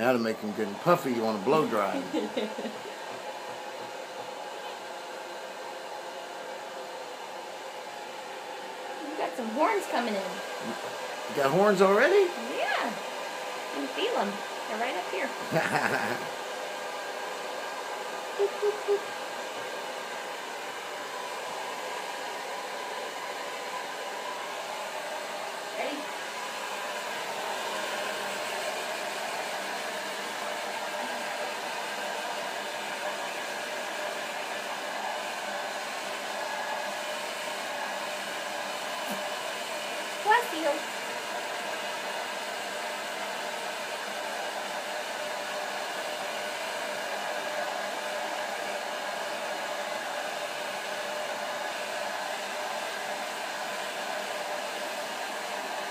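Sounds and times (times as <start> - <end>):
hair dryer blowing: 0.0 - 55.9.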